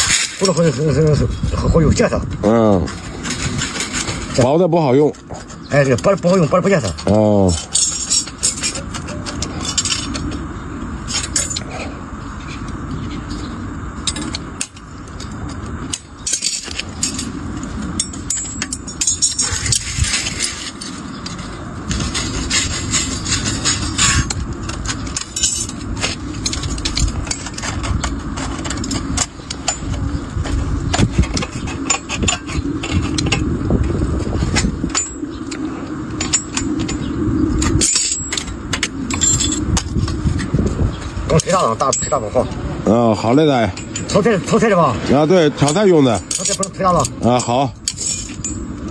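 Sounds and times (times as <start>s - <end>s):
sheet metal clinking and scraping: 0.0s - 12.6s, 14.0s - 30.1s, 36.2s - 48.9s.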